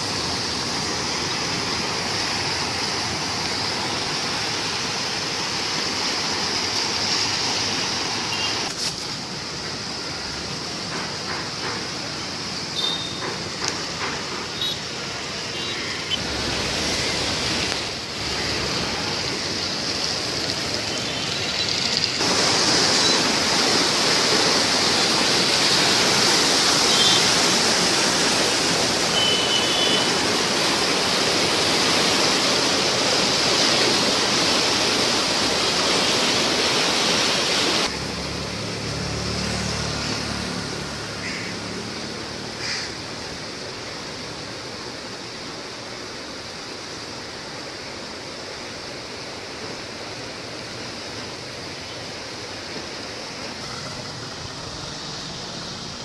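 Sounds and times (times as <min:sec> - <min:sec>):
roar of fast floodwater: 0:00.0 - 0:10.8, 0:16.2 - 0:21.2, 0:22.2 - 0:56.0.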